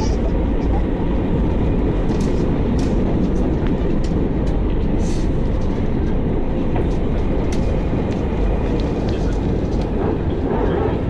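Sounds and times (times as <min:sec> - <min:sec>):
airplane engines rumbling: 0:00.0 - 0:11.0.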